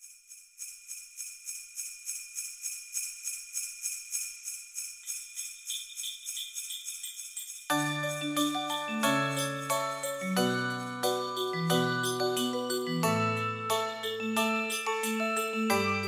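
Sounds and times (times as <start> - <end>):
sleigh bells shaken: 0.0 - 16.0.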